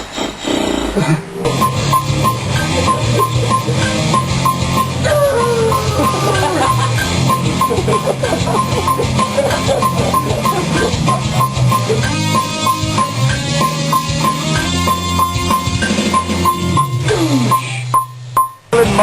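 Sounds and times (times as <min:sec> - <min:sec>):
heavy metal guitar and drums: 0:00.0 - 0:17.6
metronome click track ticking: 0:01.5 - 0:18.7.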